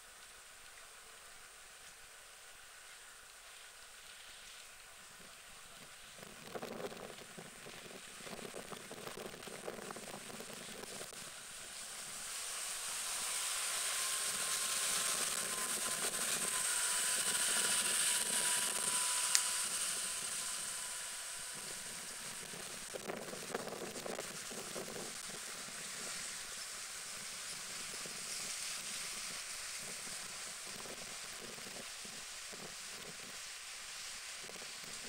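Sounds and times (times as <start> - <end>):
faint steady whine: 0.0 - 35.0
distant aircraft hiss: 2.8 - 35.0.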